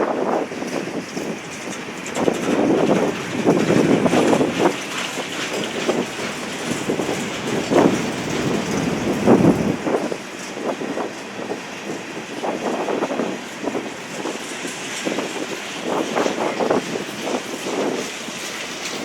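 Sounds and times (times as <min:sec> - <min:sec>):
wind buffeting microphone: 0:00.0 - 0:19.0
train wheels clacking: 0:00.5 - 0:19.0.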